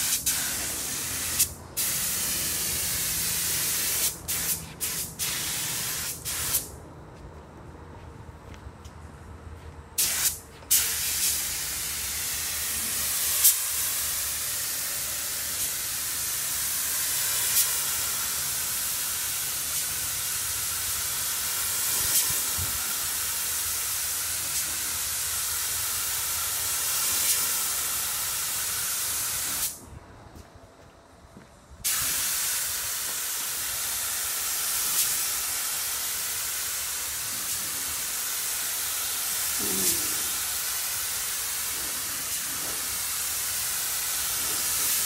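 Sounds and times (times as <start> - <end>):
paint spray gun hissing: 0.0 - 6.7, 10.0 - 29.8, 31.8 - 45.0.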